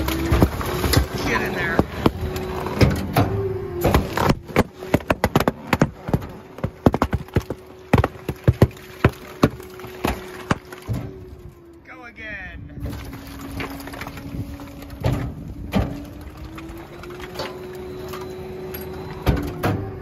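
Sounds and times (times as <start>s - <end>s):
garbage truck humming: 0.0s - 11.8s, 13.0s - 20.0s.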